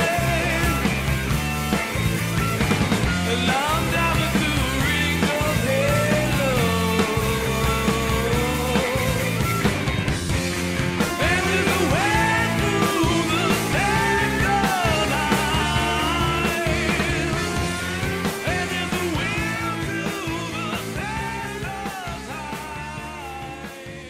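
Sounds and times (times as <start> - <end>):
song with singing voice: 0.0 - 24.0.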